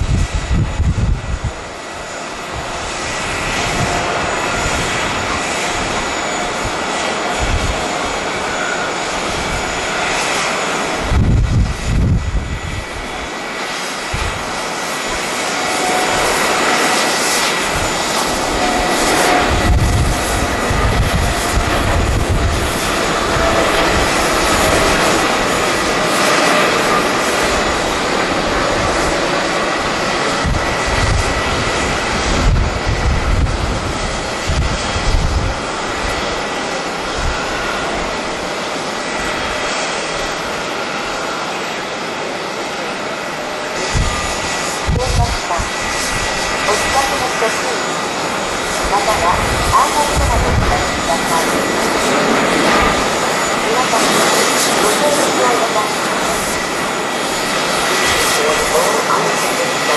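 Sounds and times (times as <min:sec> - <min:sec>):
wind buffeting microphone: 0:00.0 - 0:41.4, 0:42.5 - 0:47.3, 0:47.9 - 0:59.9
jet engines roaring on takeoff: 0:00.0 - 0:59.9.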